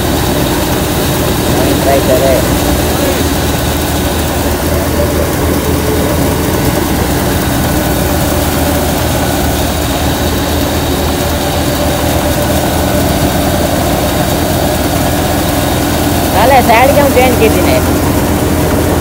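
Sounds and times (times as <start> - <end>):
grain thresher drone: 0.0 - 19.0.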